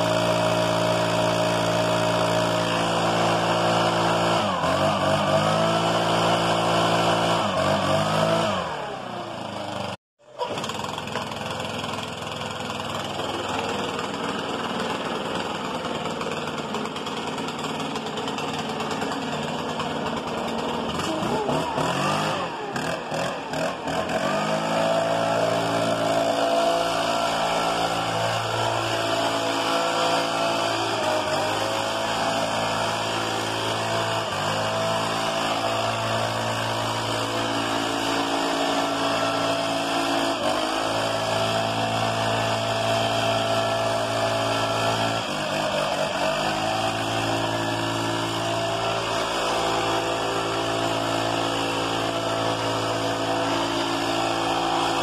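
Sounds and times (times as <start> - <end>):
leaf blower engine running: 0.0 - 55.0.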